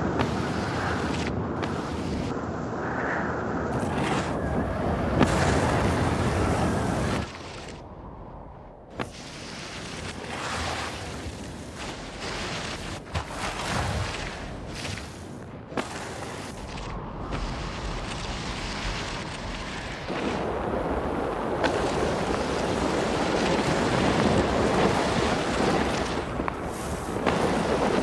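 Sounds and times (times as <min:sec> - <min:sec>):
strong wind buffeting microphone: 0:00.0 - 0:28.0.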